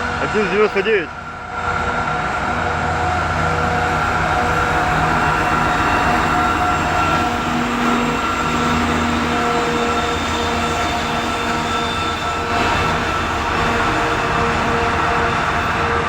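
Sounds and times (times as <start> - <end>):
freight train rumbling: 0.0 - 16.0
steady whining tones: 0.0 - 16.0.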